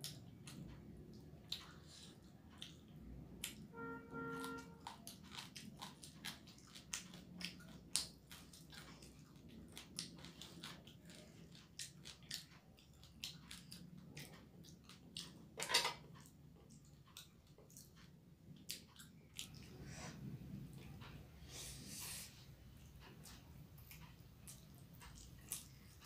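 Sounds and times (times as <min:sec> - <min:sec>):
wet chewing: 0:00.0 - 0:03.6, 0:04.3 - 0:19.8, 0:22.8 - 0:26.0.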